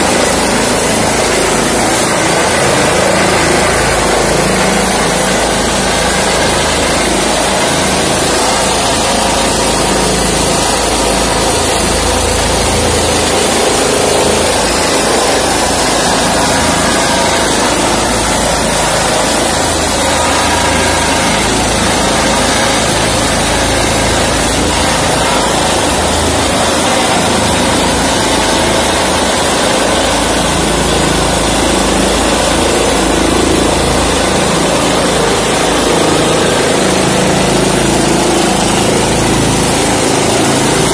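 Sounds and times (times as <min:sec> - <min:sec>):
helicopter hovering: 0:00.0 - 0:40.9.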